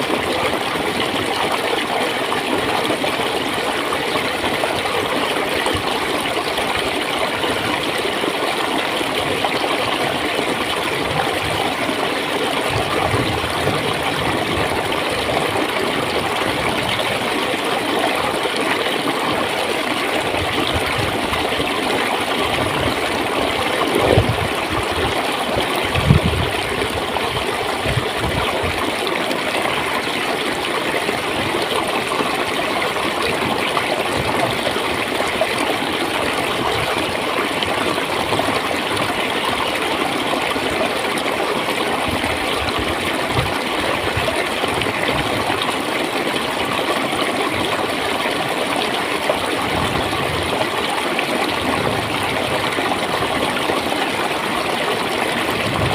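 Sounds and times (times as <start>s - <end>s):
water flowing over stones: 0.0s - 55.9s
water gurgles and splashes: 0.0s - 55.9s.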